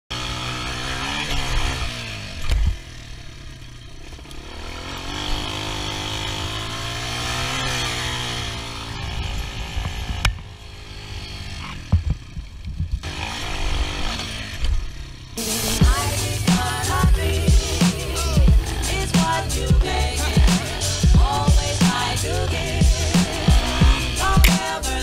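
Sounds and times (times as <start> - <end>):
atv engine revving: 0.1 - 25.0.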